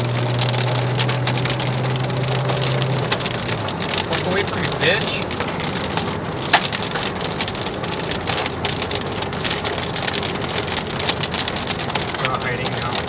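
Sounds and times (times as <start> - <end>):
hail and rain on vehicle roof: 0.0 - 13.0.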